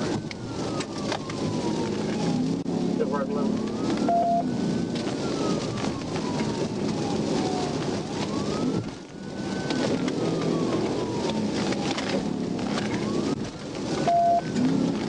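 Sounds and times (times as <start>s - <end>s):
car driving on wet road: 0.0s - 15.0s
heavy rain: 0.0s - 15.0s
police siren wailing: 0.0s - 15.0s.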